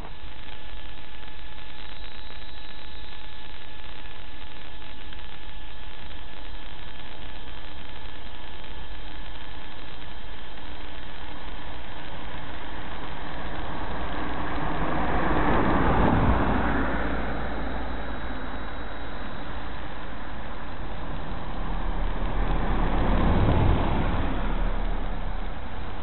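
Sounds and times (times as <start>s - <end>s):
steady rushing noise: 4.8s - 26.0s.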